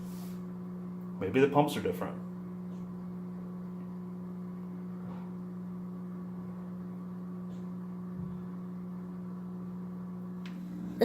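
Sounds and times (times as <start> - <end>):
filter pump humming: 0.0 - 11.0.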